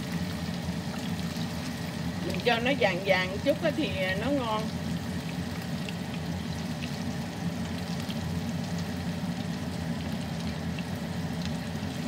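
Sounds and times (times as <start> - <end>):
oil popping and crackling: 0.0 - 12.0
oil sizzling in a pan: 0.0 - 12.0
steady low hum: 0.0 - 12.0.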